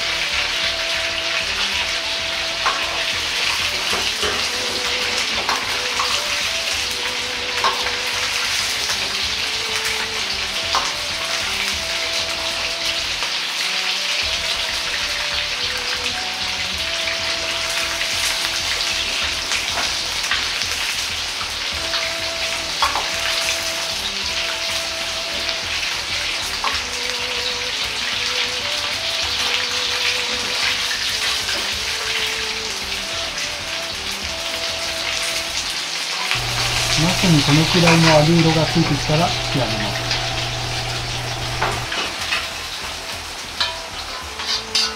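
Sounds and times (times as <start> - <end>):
hot oil sizzling in a wok: 0.0 - 44.9.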